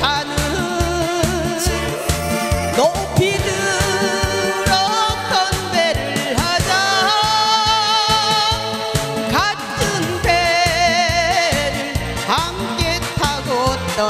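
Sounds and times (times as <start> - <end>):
backing track with drum beat: 0.0 - 14.0.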